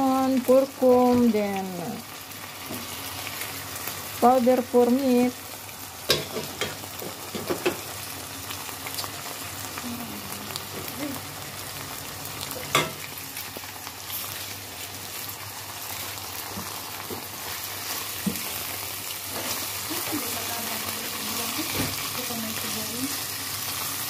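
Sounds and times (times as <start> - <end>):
rice sizzling in hot oil: 0.0 - 24.0.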